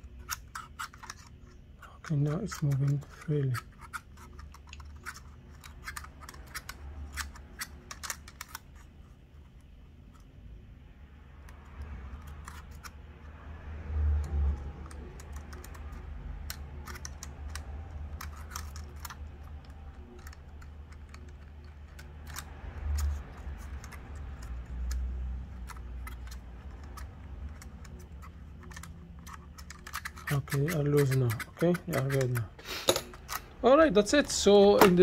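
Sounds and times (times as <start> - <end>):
small plastic parts clicking: 0.0 - 8.9, 11.4 - 13.4, 14.0 - 35.0.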